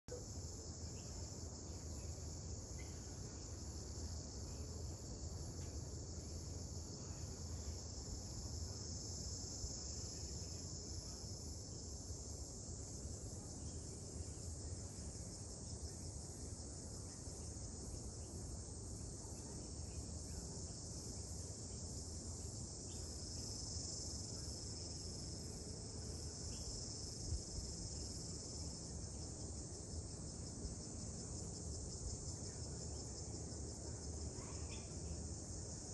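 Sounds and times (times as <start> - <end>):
insects hissing: 0.1 - 35.9
pulsing insect chirp: 0.1 - 35.9.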